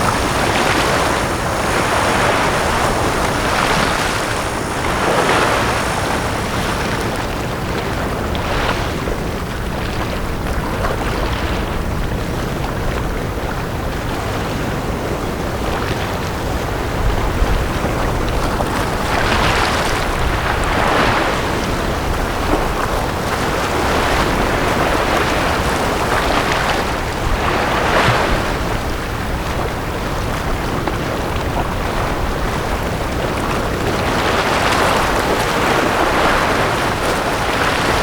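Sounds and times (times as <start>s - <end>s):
waves washing onto beach: 0.0s - 38.0s.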